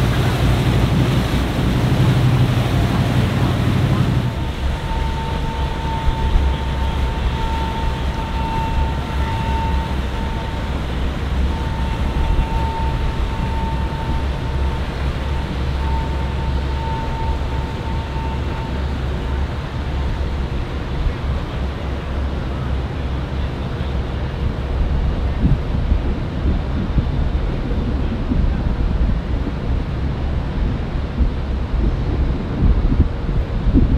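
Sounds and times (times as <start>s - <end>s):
outboard motors droning: 0.0s - 33.9s.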